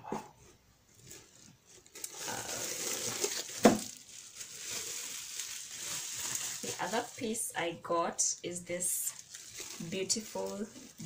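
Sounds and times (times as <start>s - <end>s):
bubble wrap crinkling: 0.8s - 11.0s.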